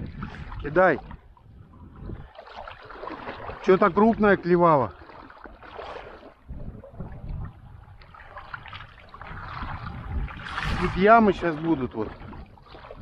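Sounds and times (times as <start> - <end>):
river water around boat: 0.0 - 13.0
wind rumbling on microphone: 0.0 - 13.0.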